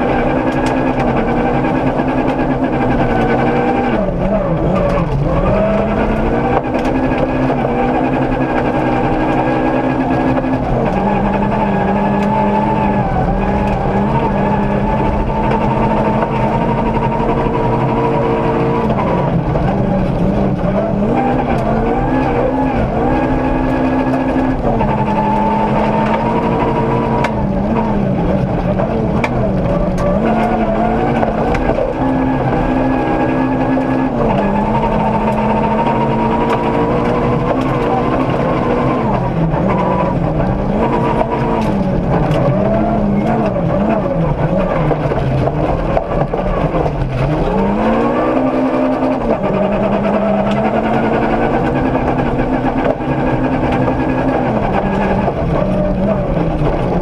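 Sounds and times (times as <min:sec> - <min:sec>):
gravel striking car: 0:00.0 - 0:57.0
rally car engine revving: 0:00.0 - 0:57.0.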